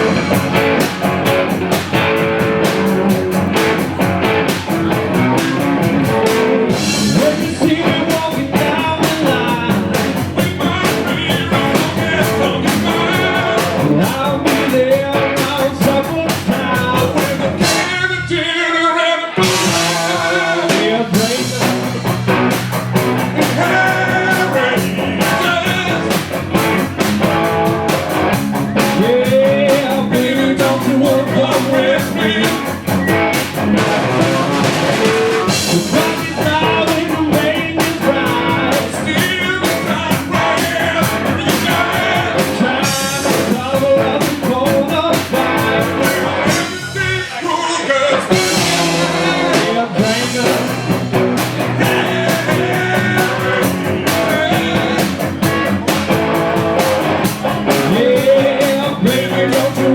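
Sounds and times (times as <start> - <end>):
drum kit: 0.0 - 18.5, 19.3 - 59.9
electric guitar: 0.0 - 59.9
person singing lead vocal: 4.8 - 55.8, 56.6 - 59.9.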